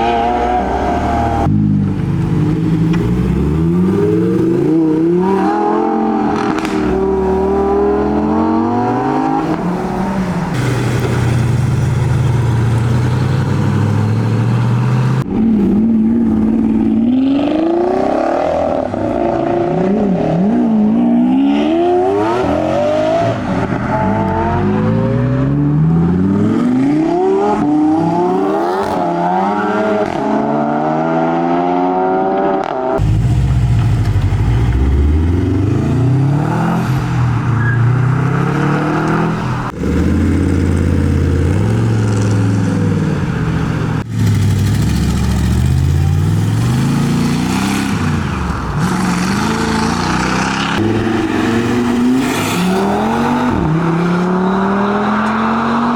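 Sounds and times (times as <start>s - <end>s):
deeper engine revving: 0.0s - 32.2s, 32.9s - 55.9s
sports car engines accelerating: 0.0s - 55.9s.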